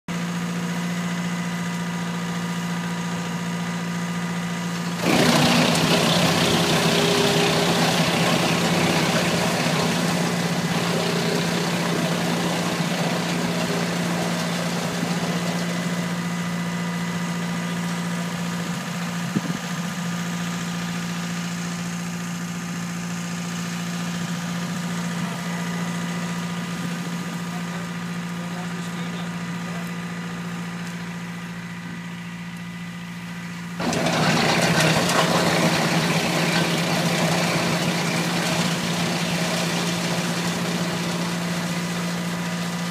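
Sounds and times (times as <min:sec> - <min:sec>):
wood chipper humming: 0:00.1 - 0:42.9.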